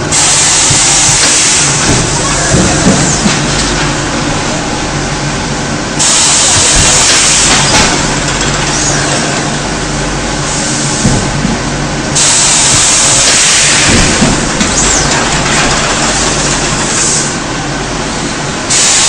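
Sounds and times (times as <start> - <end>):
welding press hiss and hum: 0.0 - 17.5, 18.7 - 19.0.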